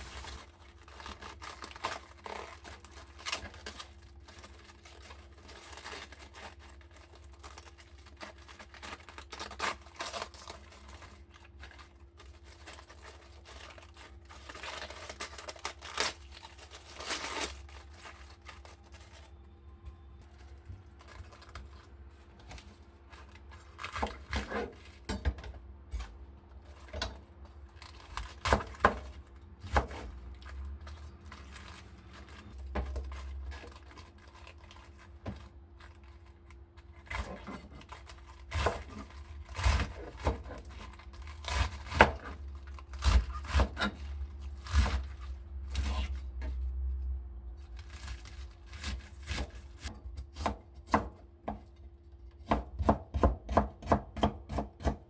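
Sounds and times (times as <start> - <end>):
utensils and ingredients handled: 0.0 - 47.0.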